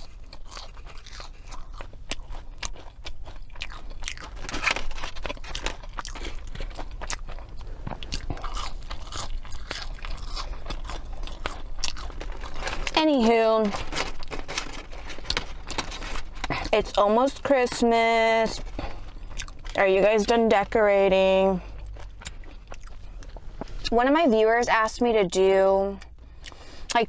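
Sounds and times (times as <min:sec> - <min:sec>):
crunchy chewing: 0:00.0 - 0:20.4, 0:21.6 - 0:24.0, 0:26.0 - 0:27.0.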